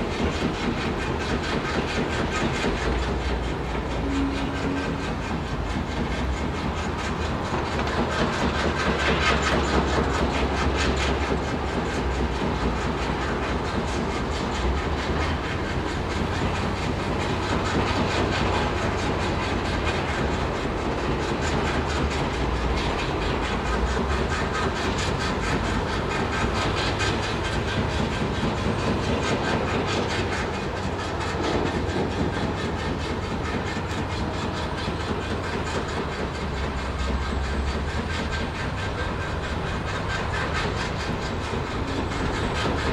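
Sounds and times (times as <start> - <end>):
machinery clattering: 0.0 - 42.9.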